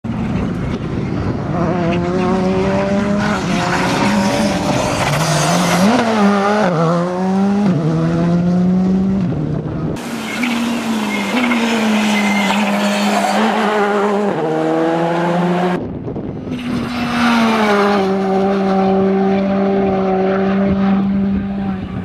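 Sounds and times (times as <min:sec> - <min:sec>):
rally car engine accelerating: 0:00.2 - 0:15.8, 0:16.7 - 0:22.0.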